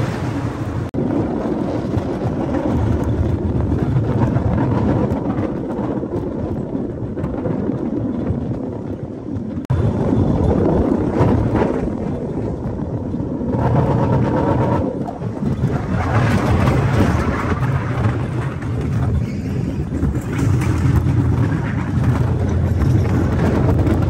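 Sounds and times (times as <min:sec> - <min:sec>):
rail car rumbling on track: 0:00.0 - 0:24.0.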